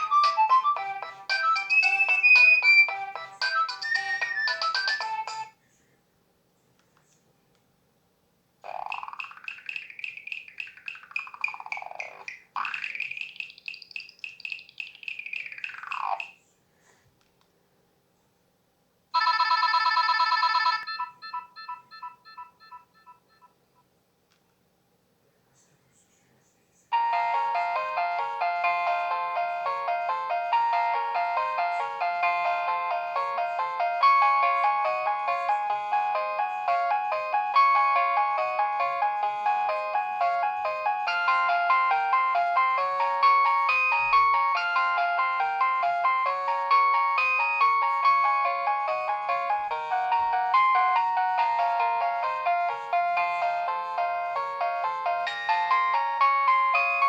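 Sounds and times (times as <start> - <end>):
mobile phone ringtone melody: 0.0 - 5.5, 8.7 - 16.3, 19.2 - 23.6, 27.0 - 57.0.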